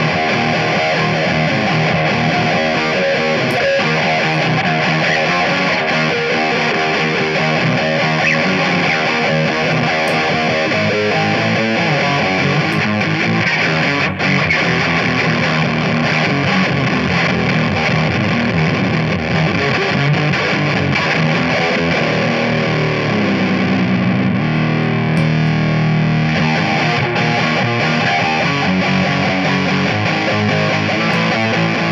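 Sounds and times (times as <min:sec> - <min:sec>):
distorted electric guitar: 0:00.0 - 0:31.9.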